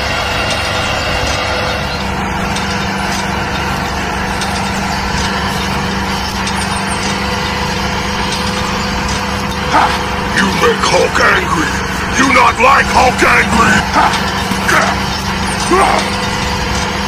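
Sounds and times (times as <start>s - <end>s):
model tractor motor humming: 0.0s - 17.0s.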